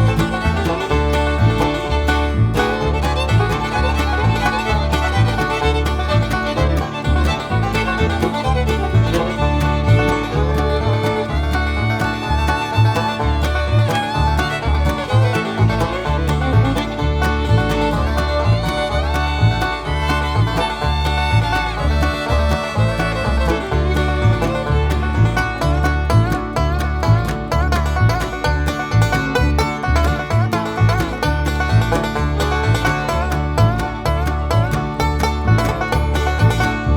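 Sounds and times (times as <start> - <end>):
bluegrass music: 0.0 - 36.9.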